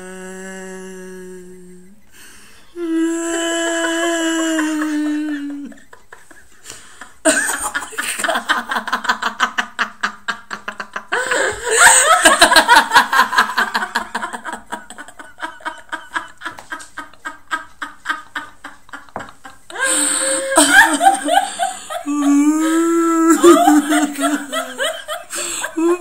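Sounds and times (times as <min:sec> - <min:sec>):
woman laughing hard: 0:03.3 - 0:06.6, 0:07.2 - 0:26.0.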